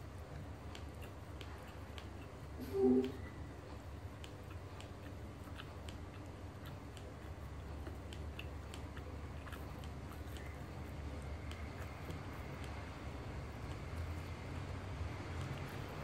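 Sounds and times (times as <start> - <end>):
chewing with wet mouth clicks: 0.0 - 16.0
steady low hum: 0.0 - 16.0.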